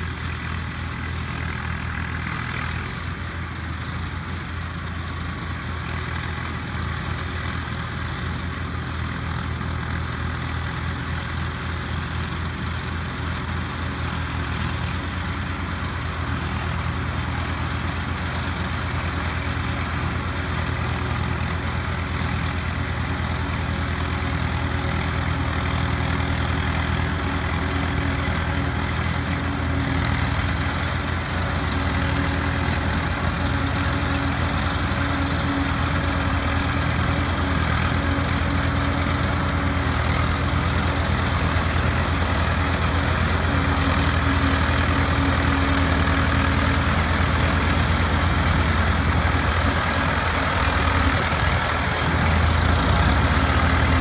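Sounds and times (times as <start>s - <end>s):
harvester chopping maize: 0.0s - 54.0s
tractor engines working under load: 0.0s - 54.0s.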